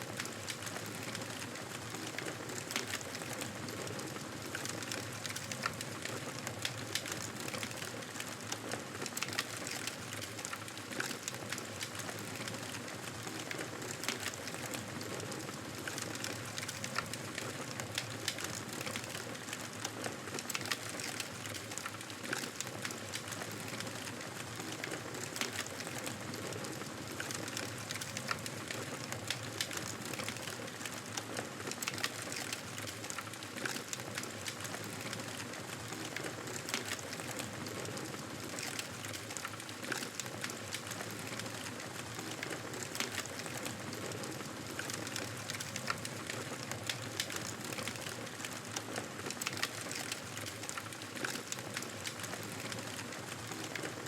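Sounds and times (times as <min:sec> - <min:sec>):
fire crackles and pops: 0:00.0 - 0:54.0.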